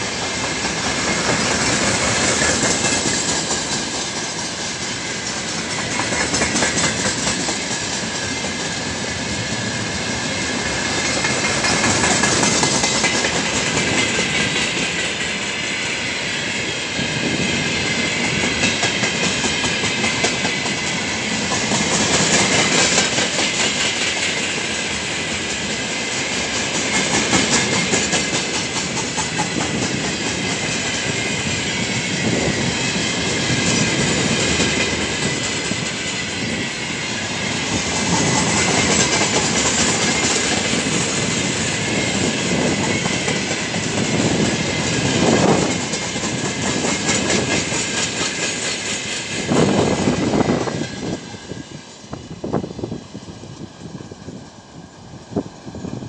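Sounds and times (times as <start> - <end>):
freight train wheels clattering: 0.0 - 53.0.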